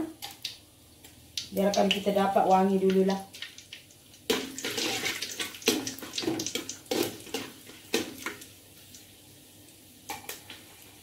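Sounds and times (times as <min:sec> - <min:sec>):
spices sizzling in hot oil: 0:00.1 - 0:11.0.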